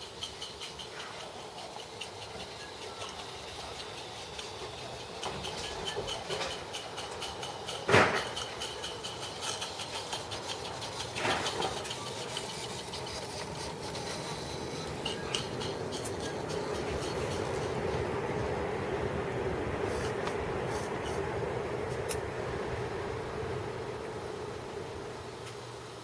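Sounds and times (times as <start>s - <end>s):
model steam locomotive clicking: 0.0s - 26.0s.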